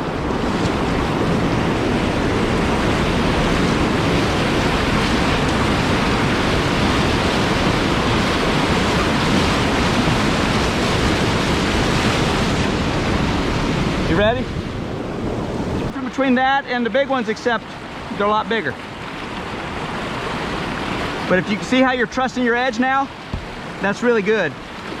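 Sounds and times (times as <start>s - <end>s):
whitewater rushing: 0.0s - 25.0s.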